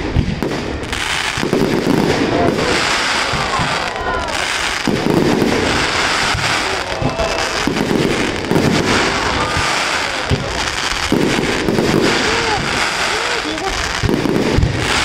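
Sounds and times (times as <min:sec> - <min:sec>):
deep firework booms: 0:00.0 - 0:15.0
fireworks crackling and popping: 0:00.0 - 0:15.0.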